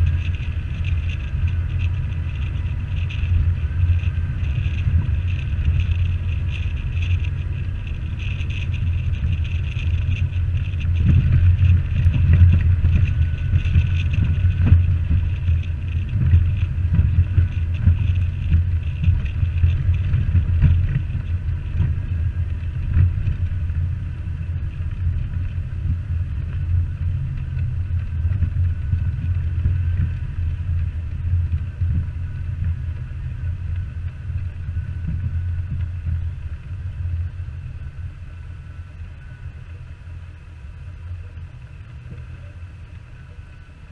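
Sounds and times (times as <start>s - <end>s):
car engine low rumble: 0.0s - 43.9s.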